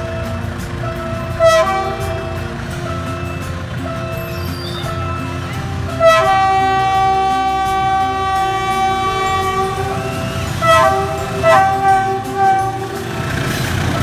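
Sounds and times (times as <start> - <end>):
passing train rumble: 0.0 - 14.0
train horn blasts: 0.0 - 14.0.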